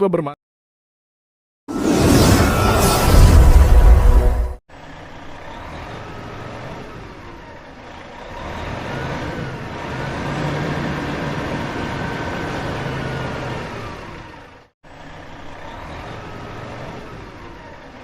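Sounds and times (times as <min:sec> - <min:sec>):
van engine drone: 0:02.1 - 0:18.0.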